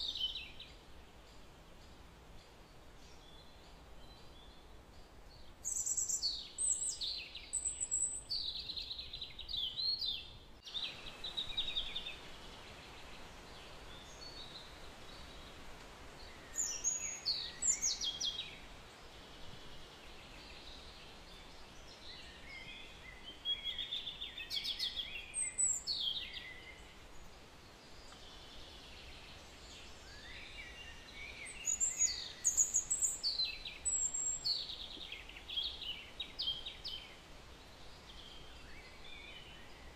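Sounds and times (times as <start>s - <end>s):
songbird chirping: 0.0s - 39.9s
steady background hiss: 0.0s - 39.9s.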